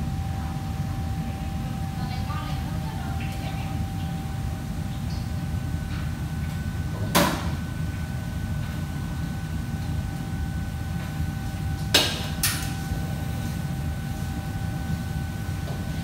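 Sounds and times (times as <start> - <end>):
kitchen machinery humming: 0.0 - 16.0.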